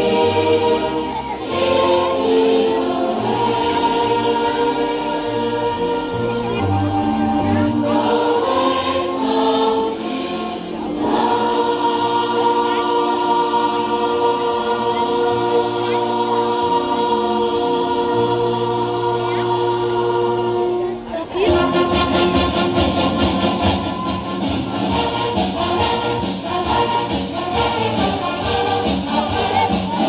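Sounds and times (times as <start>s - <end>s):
gospel choir singing: 0.0s - 30.0s.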